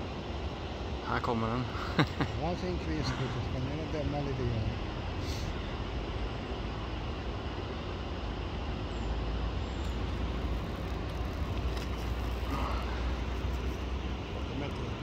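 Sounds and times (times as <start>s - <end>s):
river water flowing: 0.0s - 15.0s
road traffic rumble: 0.0s - 15.0s.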